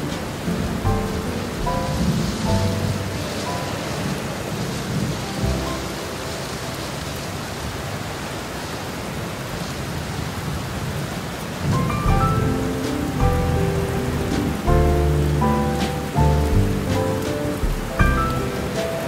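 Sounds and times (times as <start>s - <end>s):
thunder rumbling: 0.0s - 7.9s, 9.6s - 19.0s
heavy rain pouring: 0.0s - 19.0s.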